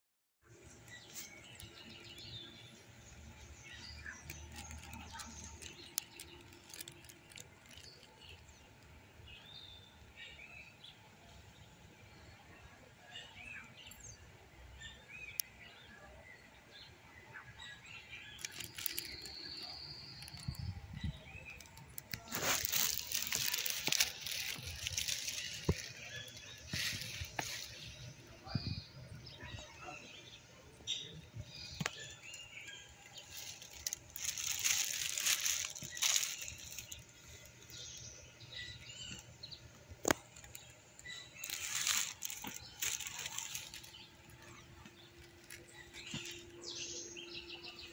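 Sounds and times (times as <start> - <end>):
small birds chirping: 0.4 - 47.9.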